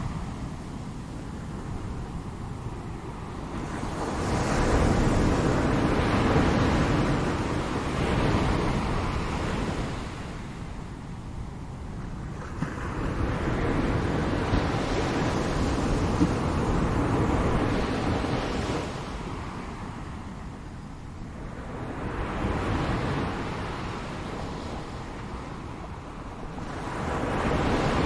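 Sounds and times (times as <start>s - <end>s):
ocean waves breaking on shore: 0.0s - 28.0s.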